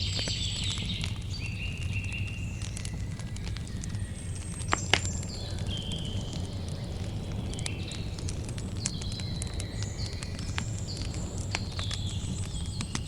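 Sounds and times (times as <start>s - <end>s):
campfire crackling: 0.0s - 13.0s
sharp fire pops: 0.0s - 13.0s.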